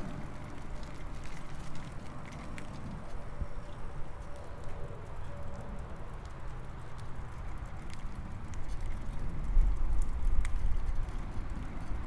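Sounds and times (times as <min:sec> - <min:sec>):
bicycle ticks and rattles: 0:00.0 - 0:12.0
wind rumbling on microphone: 0:00.0 - 0:12.0.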